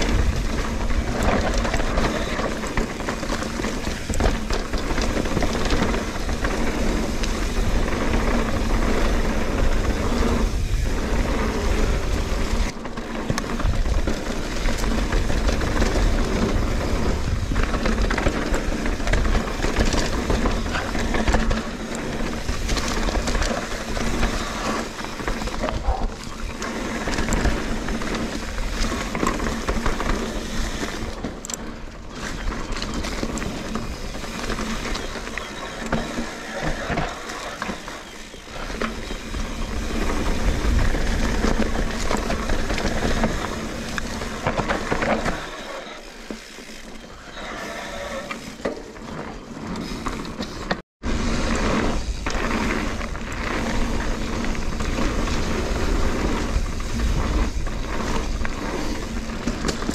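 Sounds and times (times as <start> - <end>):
bike chain and frame rattling: 0.0 - 59.9
bike tyres rolling over dirt: 0.0 - 59.9.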